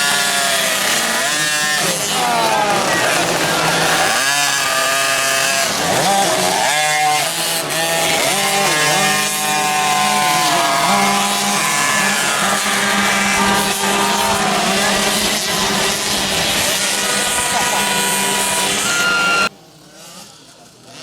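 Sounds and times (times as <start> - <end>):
motocross bike engines racing: 0.0 - 21.0.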